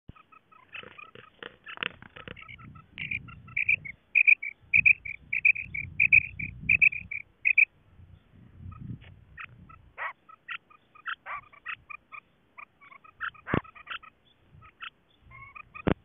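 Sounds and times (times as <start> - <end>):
quail calling: 0.1 - 7.7, 8.6 - 16.0.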